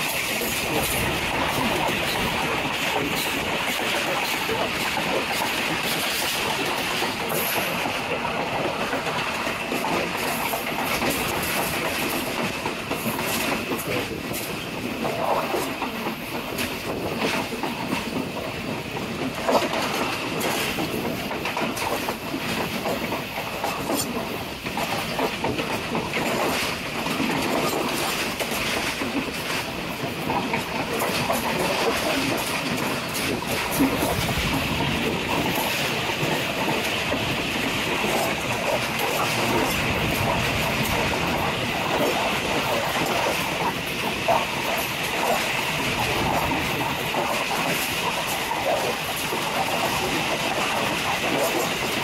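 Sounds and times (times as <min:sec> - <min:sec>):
train carriages rumbling: 0:00.0 - 0:52.0
wheels clicking over rail joints: 0:00.0 - 0:52.0.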